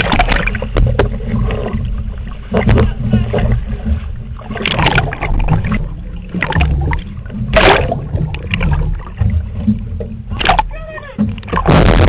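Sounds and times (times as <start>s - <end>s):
hull rushing through water: 0.0s - 12.0s
water splashing against boat: 0.0s - 12.0s.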